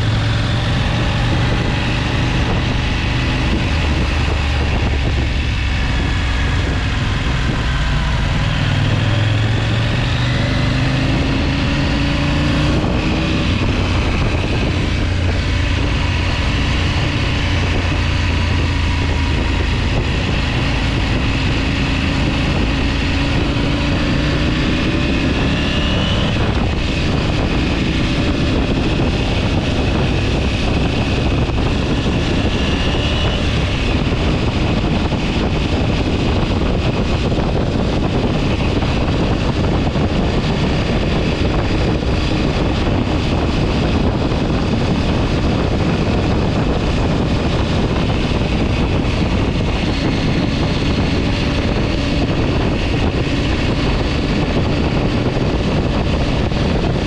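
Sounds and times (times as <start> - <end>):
faint vehicle engine: 0.0 - 57.0
wind on microphone: 0.0 - 57.0.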